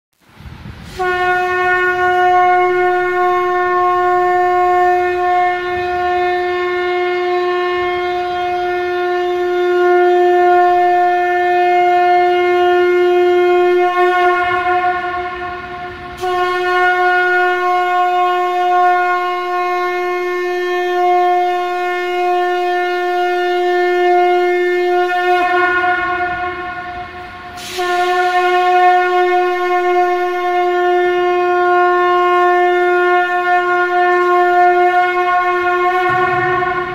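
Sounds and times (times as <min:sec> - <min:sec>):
conch shell blasts: 0:00.9 - 0:36.9.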